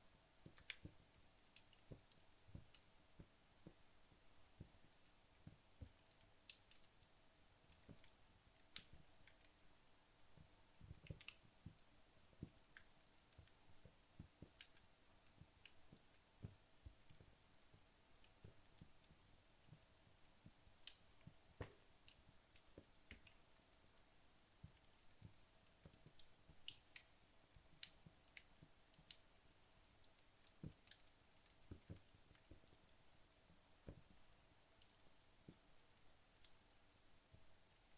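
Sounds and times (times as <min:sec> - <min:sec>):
fire crackling and popping: 0:00.2 - 0:37.9.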